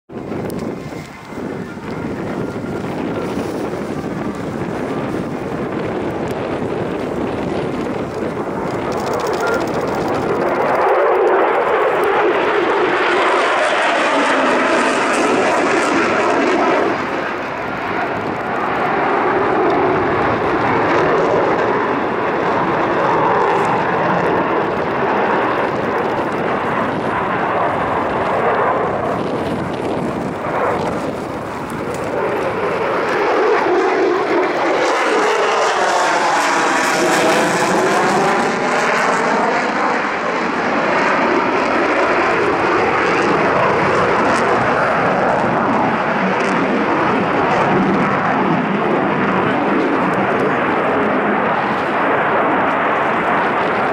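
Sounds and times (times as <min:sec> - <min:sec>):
jet flying overhead: 0:00.1 - 0:53.9.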